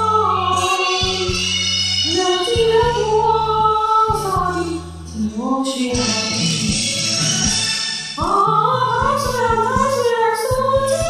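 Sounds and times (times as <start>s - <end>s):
woman singing a slow ballad: 0.0s - 1.4s, 2.0s - 6.8s, 8.2s - 11.0s
karaoke backing track: 0.0s - 11.0s.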